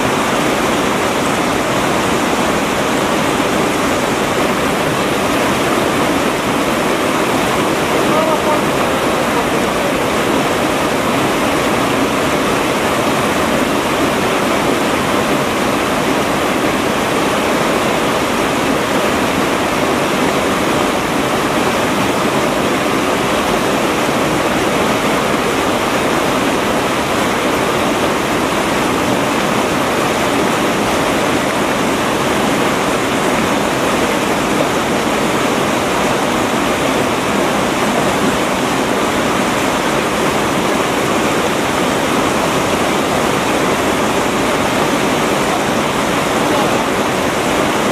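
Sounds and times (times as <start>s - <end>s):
river rapids rushing over rocks: 0.0s - 47.9s.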